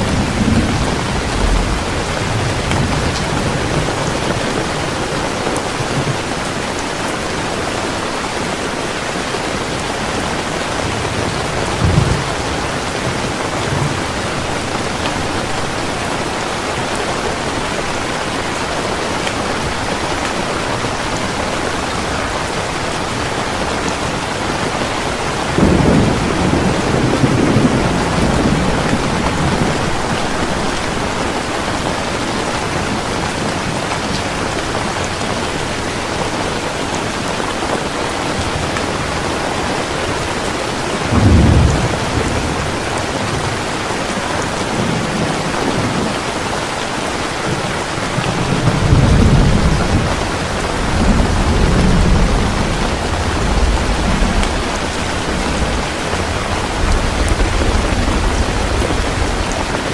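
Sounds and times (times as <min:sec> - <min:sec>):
thunder rumbling: 0:00.0 - 0:07.1, 0:09.4 - 0:18.2, 0:19.4 - 0:36.7, 0:38.4 - 0:46.4, 0:47.5 - 0:59.9
heavy rain falling: 0:00.0 - 0:59.9.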